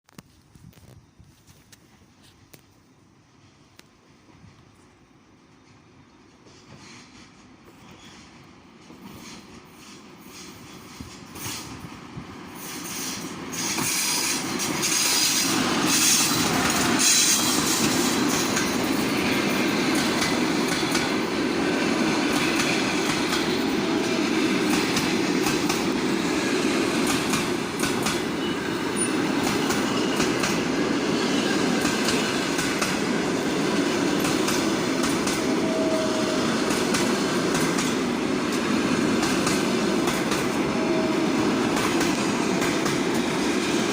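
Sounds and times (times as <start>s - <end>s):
passenger train passing: 1.9s - 43.9s.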